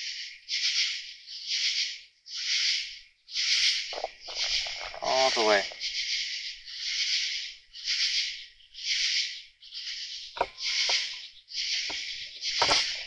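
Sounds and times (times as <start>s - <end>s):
night insects rasping: 0.0s - 13.0s.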